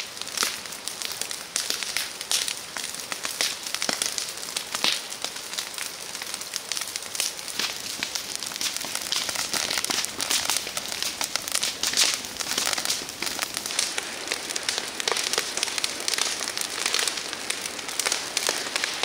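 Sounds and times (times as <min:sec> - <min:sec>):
brush fire crackling: 0:00.0 - 0:19.0.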